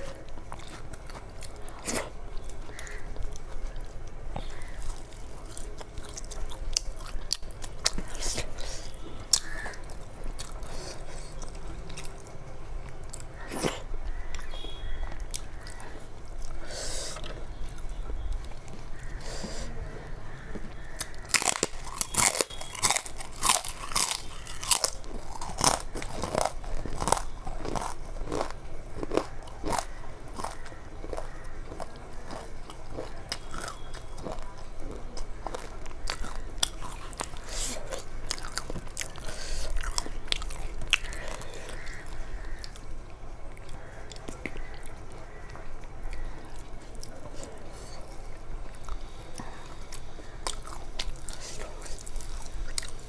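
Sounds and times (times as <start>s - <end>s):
crunching and chewing crisp food: 0.0s - 53.0s.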